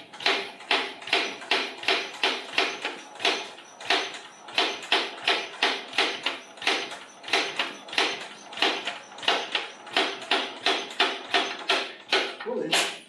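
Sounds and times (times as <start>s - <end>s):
single-cylinder stationary engine beats: 0.0s - 12.4s.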